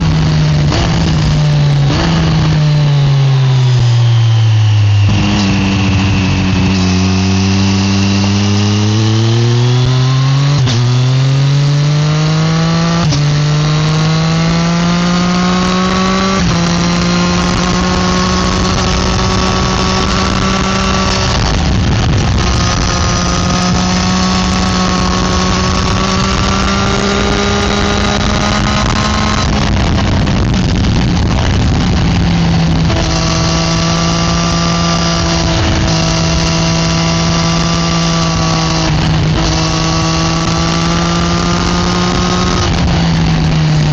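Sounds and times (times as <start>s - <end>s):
motorcycle engine and exhaust: 0.0s - 43.9s.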